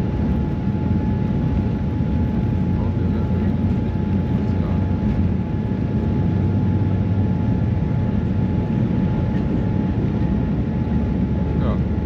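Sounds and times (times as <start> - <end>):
jet engine and airflow rumble: 0.0 - 12.0.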